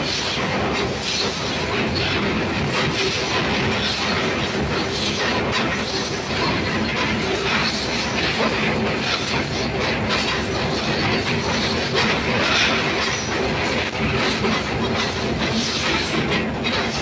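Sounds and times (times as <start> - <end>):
clickety-clack of rails: 0.0 - 17.0.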